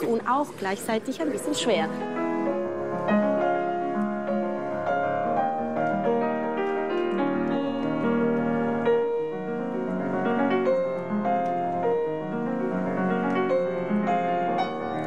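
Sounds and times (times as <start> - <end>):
slow classical piano music: 0.0 - 15.0.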